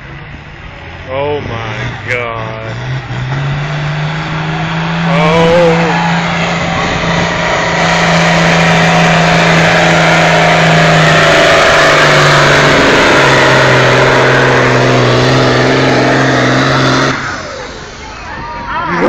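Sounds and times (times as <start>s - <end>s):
engine running flat out: 0.0s - 19.0s.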